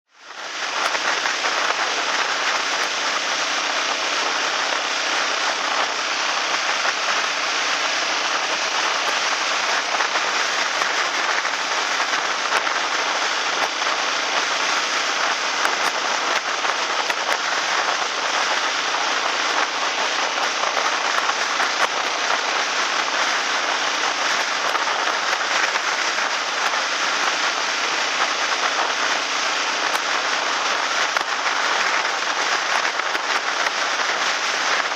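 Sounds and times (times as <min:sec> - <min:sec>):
floodwater rushing in river: 0:00.1 - 0:34.9.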